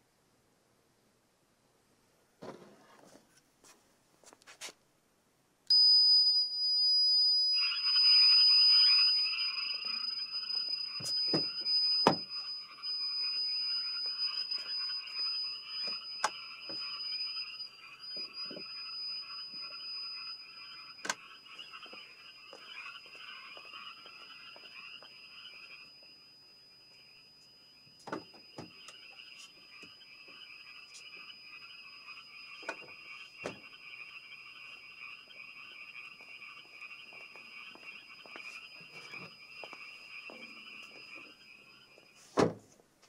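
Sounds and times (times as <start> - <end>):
high-pitched electronic beeper tone: 5.7 - 42.1
frogs croaking: 6.6 - 42.3.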